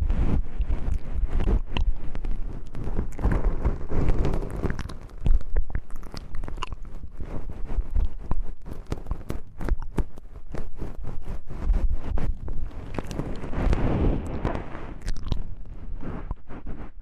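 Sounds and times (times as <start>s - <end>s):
crackling clicks at microphone: 0.0s - 17.0s.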